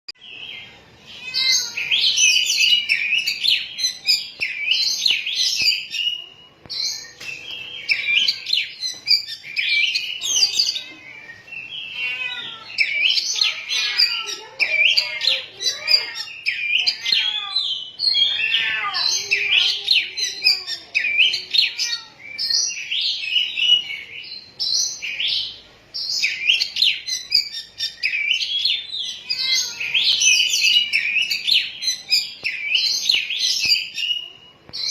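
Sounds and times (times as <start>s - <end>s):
bird warbling song: 0.2s - 34.9s.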